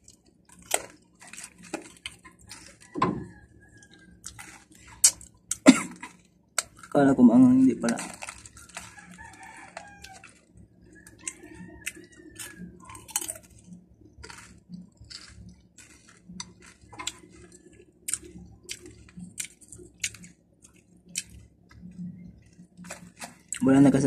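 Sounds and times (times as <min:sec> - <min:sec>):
person crunching chips: 0:00.0 - 0:03.0, 0:03.6 - 0:24.0.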